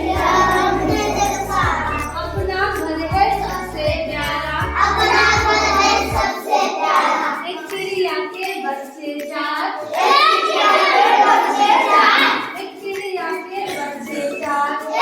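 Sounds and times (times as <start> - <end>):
children singing a rhyme: 0.0 - 15.0.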